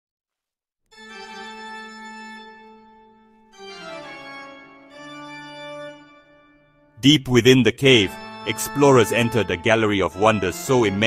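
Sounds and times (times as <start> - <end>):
slow organ-like keyboard chords: 0.9 - 11.0.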